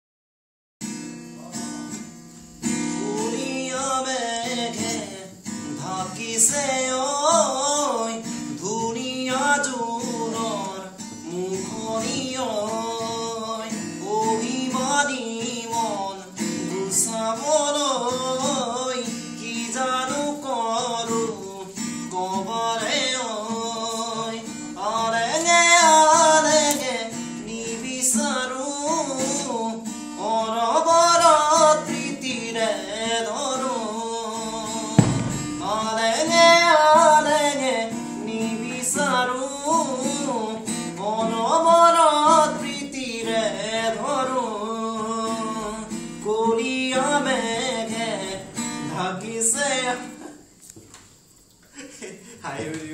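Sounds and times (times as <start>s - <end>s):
acoustic guitar strumming: 0.8s - 50.6s
man singing: 2.9s - 50.4s.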